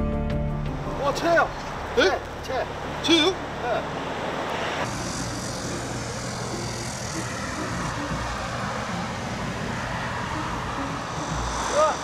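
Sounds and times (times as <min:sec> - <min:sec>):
vehicle engine drone: 0:00.4 - 0:12.0.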